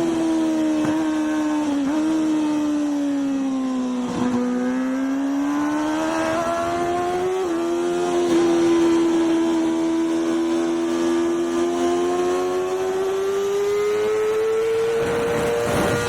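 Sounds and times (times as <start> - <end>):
racing motorcycle engine: 0.0 - 16.0.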